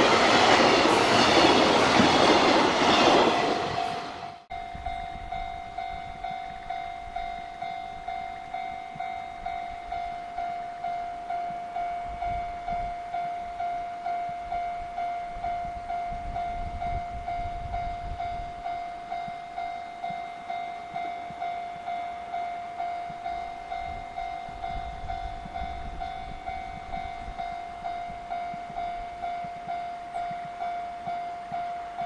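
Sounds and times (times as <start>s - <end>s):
level crossing bell ringing: 4.5s - 32.0s.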